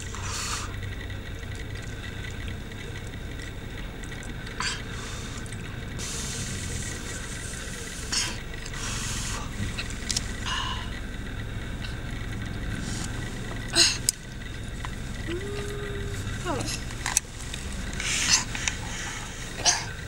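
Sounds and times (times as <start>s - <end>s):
car interior hum: 0.0s - 20.0s.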